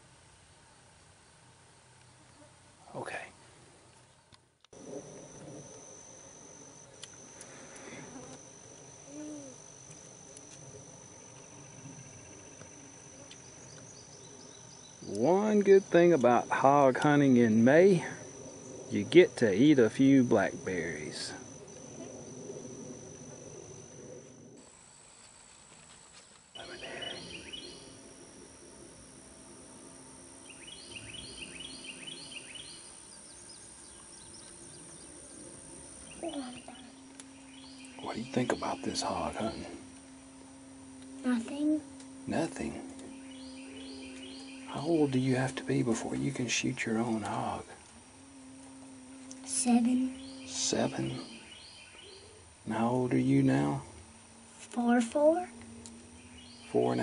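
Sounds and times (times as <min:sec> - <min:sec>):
insects droning: 0:00.0 - 0:57.0
low outdoor background rumble: 0:00.0 - 0:57.0
low hum: 0:04.7 - 0:57.0
bird singing: 0:04.8 - 0:24.6, 0:26.5 - 0:57.0.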